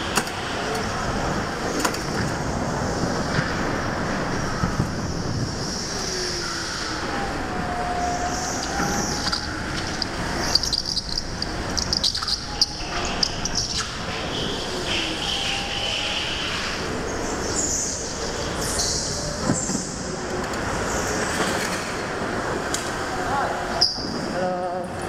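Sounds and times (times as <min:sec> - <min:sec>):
go-kart engine rumbling: 0:00.0 - 0:25.0.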